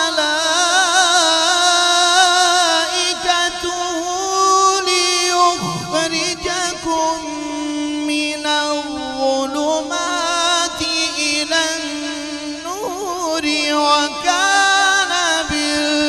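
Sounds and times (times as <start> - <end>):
man chanting melodic recitation: 0.0 - 16.0.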